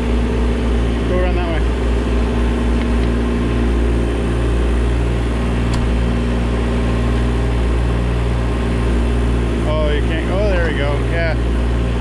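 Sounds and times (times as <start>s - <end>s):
mini excavator diesel engine running: 0.0s - 12.0s.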